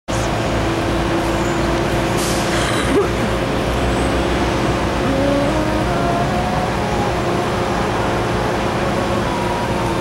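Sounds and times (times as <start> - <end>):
truck diesel engine rumbling: 0.1 - 10.0.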